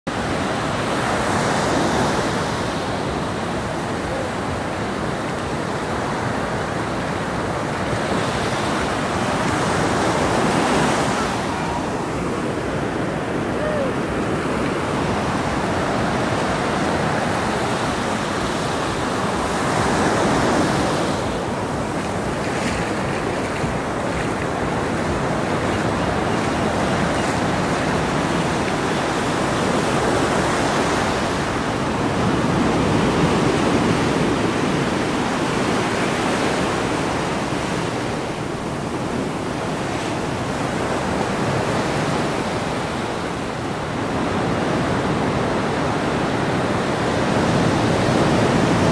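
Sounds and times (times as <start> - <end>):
ocean surf washing on beach: 0.1 - 48.9.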